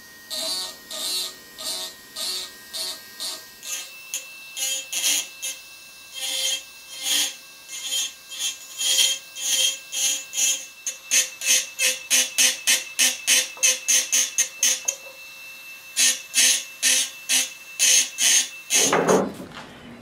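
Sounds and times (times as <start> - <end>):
rotary tool whine: 0.0 - 20.0.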